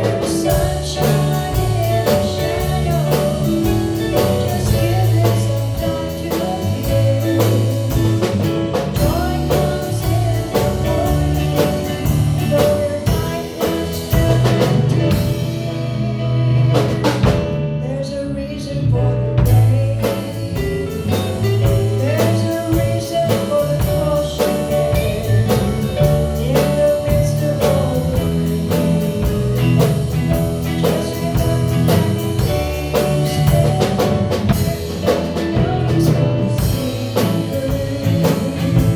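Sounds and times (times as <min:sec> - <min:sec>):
band with drum kit: 0:00.0 - 0:38.9
woman singing gospel: 0:00.0 - 0:38.9.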